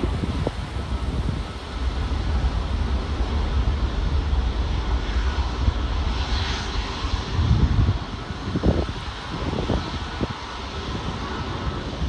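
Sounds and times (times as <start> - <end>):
jet engine hiss: 0.0 - 12.0
jet engines rumbling: 0.0 - 12.0.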